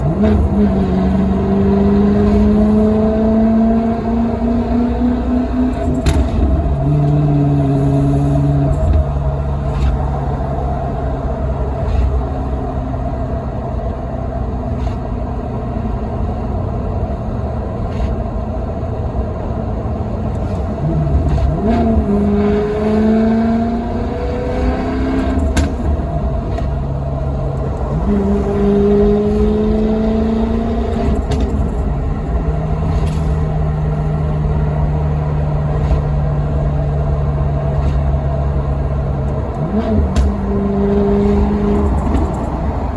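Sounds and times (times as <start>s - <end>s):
car engine accelerating: 0.0s - 42.9s
road noise: 0.0s - 42.9s.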